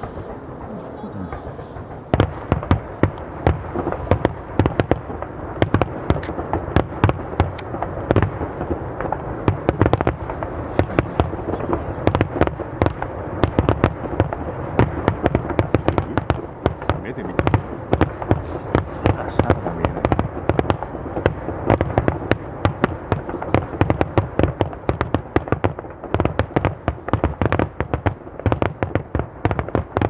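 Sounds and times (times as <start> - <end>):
firework cracks and bangs: 0.0 - 30.0
rumble of firework booms: 0.0 - 30.0.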